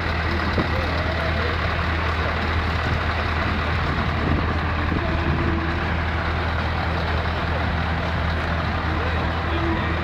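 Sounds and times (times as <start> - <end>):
diesel truck engine idling: 0.0 - 10.0
outdoor noise haze: 0.0 - 10.0.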